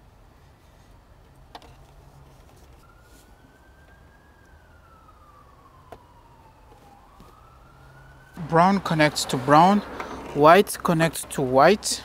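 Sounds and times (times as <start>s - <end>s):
faint siren wailing: 2.0s - 12.0s.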